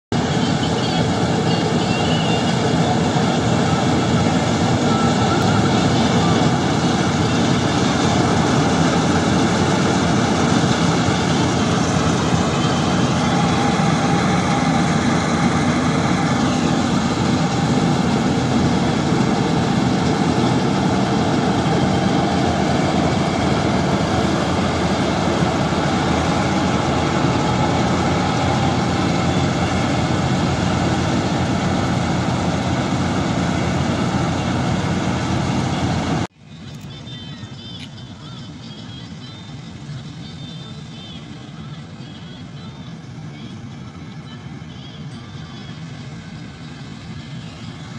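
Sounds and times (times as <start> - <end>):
combine harvester running: 0.1 - 47.9.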